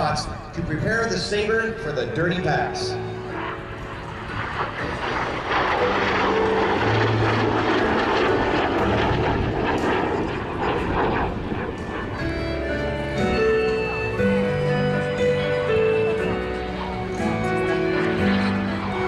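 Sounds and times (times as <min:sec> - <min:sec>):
faint music: 0:00.0 - 0:19.0
jet flying past: 0:00.0 - 0:19.0.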